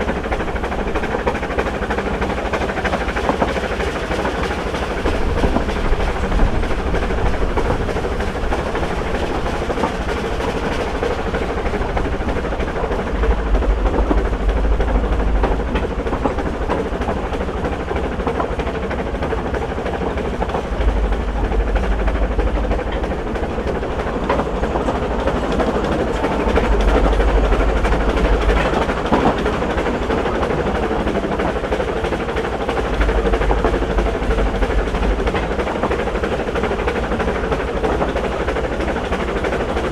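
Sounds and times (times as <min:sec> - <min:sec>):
steam train running: 0:00.0 - 0:39.9.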